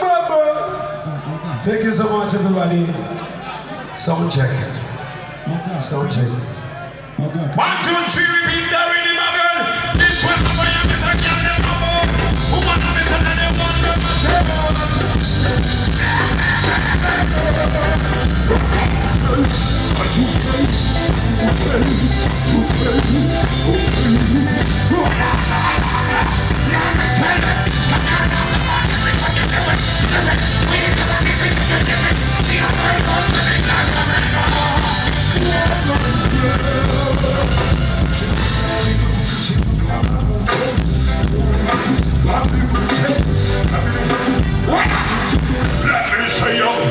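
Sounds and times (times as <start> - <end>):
loud amplified music with singing: 0.0 - 46.9.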